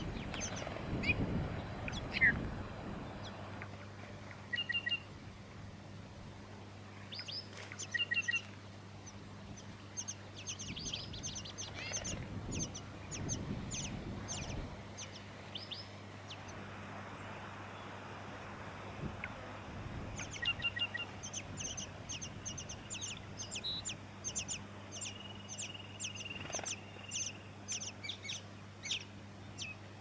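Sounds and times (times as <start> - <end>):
nestlings begging calls: 0.0 - 3.5, 4.5 - 5.1, 7.1 - 16.6, 19.1 - 29.9.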